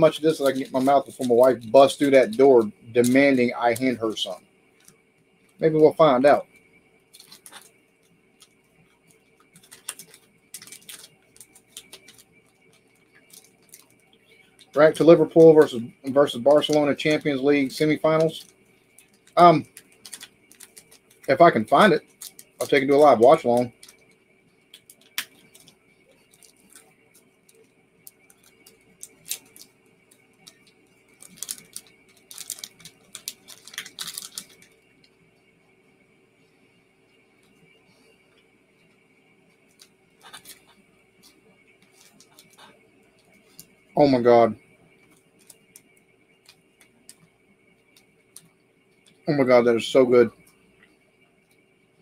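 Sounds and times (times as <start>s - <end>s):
wrapping being handled: 0.0s - 35.2s, 38.9s - 49.6s
air conditioner hum: 0.0s - 52.0s.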